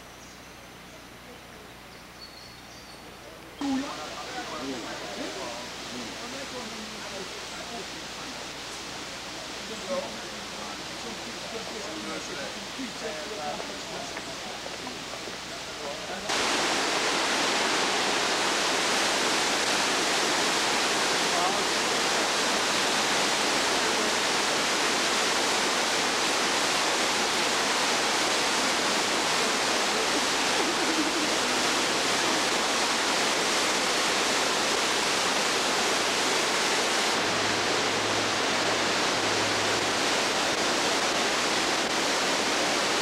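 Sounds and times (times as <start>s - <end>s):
waterfall cascading over rocks: 3.6s - 43.0s.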